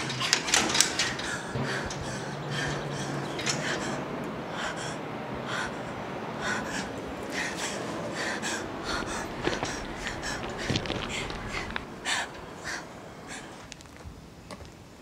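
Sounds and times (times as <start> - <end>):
person gasping for breath: 1.2 - 13.6.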